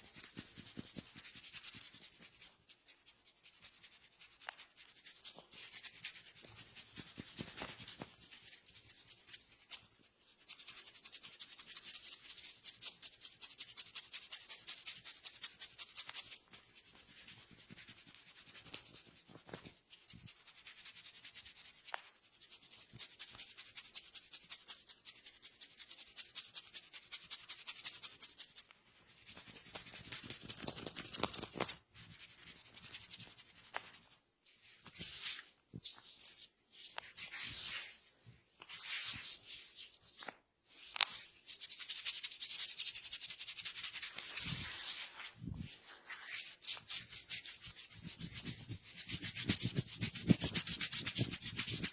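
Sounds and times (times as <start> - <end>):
hands rubbing over hair: 0.0 - 51.9.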